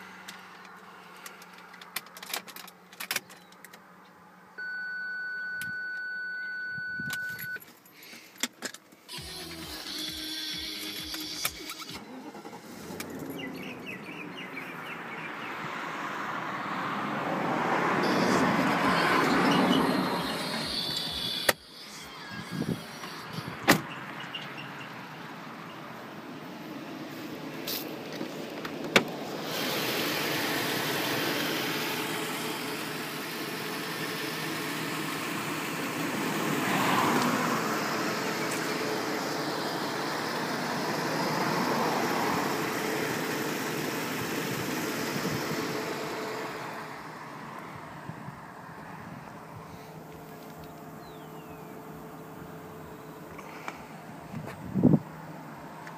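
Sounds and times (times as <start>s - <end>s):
car engine running: 9.0s - 55.9s.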